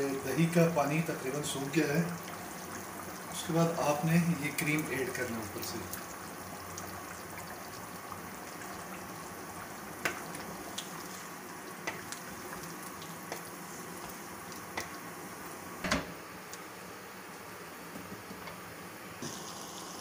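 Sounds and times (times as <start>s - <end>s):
curry simmering and bubbling: 0.0s - 20.0s.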